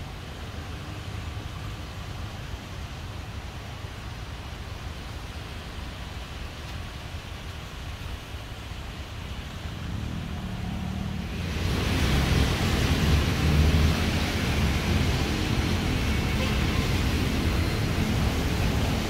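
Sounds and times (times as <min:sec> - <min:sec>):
low rumble of engines: 0:00.0 - 0:19.0
tyres hissing on wet road: 0:00.0 - 0:19.0.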